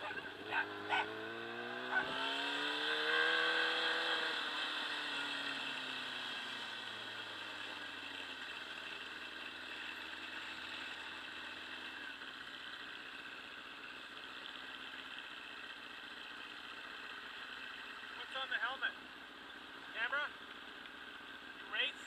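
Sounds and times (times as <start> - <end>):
motorcycle engine slowing to idle: 0.0 - 18.2.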